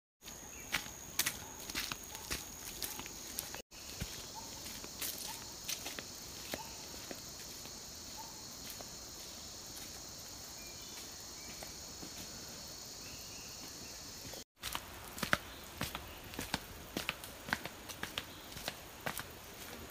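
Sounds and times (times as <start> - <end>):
footsteps on dirt path: 0.2 - 12.8, 13.5 - 19.9
forest insects chorus: 0.2 - 19.9.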